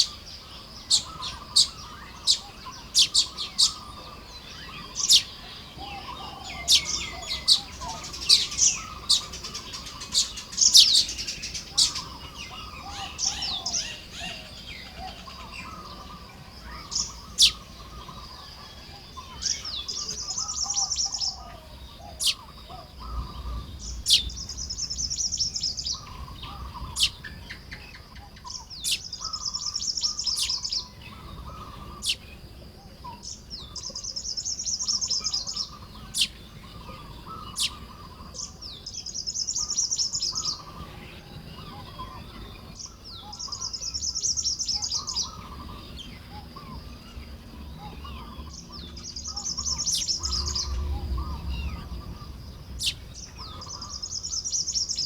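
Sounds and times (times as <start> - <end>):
bird wheezing buzz song: 0.0 - 27.3, 28.4 - 32.4, 33.3 - 55.0
weaver birds chirping: 0.0 - 55.0.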